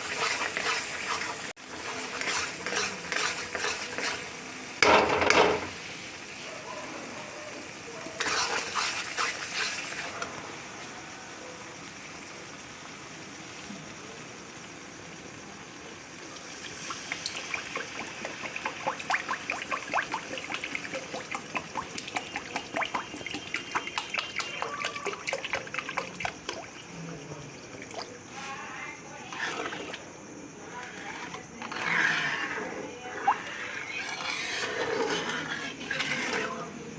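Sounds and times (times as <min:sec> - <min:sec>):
curry sizzling and bubbling: 0:00.0 - 0:36.9.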